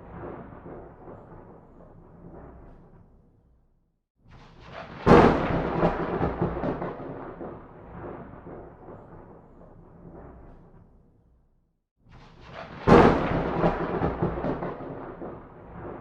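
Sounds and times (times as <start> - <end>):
thunderclap: 0.0 - 3.3, 4.3 - 11.0, 12.1 - 16.0.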